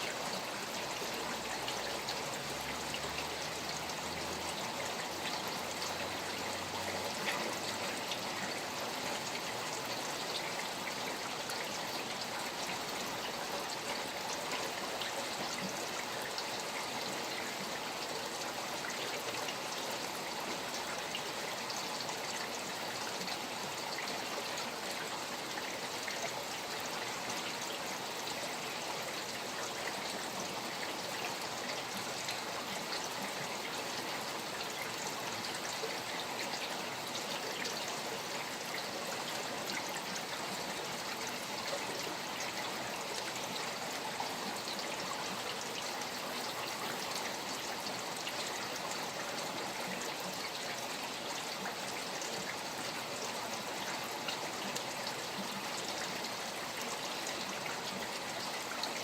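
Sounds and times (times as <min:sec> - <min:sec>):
steady rain falling: 0:00.0 - 0:59.0
stream water flowing: 0:00.0 - 0:59.0.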